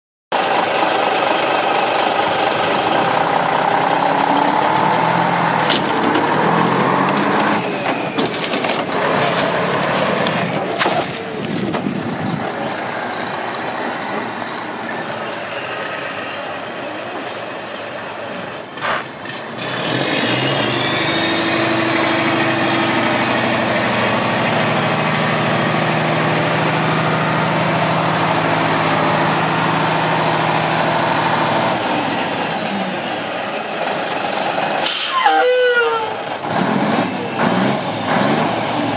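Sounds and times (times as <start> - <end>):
truck diesel engine running: 0.3 - 38.9.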